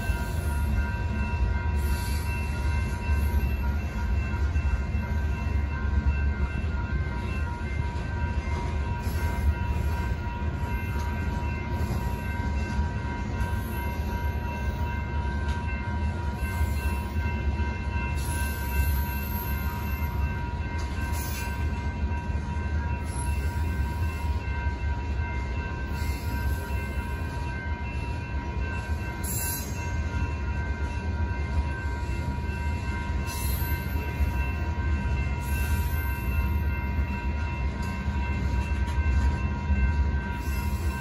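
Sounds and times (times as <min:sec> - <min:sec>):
crossing bells ringing: 0:00.0 - 0:41.0
train wheels rumbling on rails: 0:00.0 - 0:41.0.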